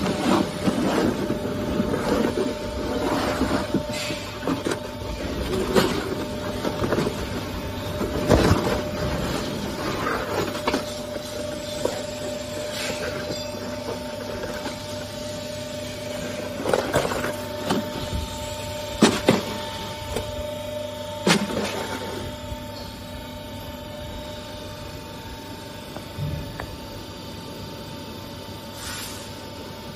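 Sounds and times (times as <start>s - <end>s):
electric motor hum and whine: 0.0s - 29.9s.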